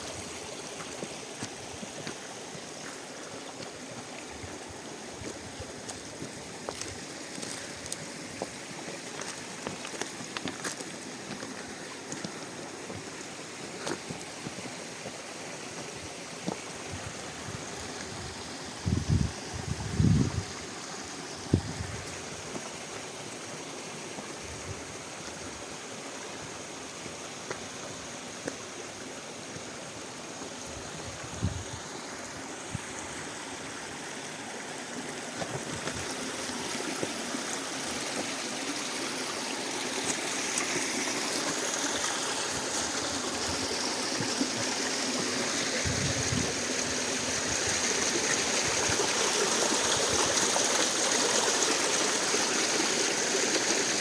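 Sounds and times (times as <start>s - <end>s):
stream water running: 0.0s - 54.0s.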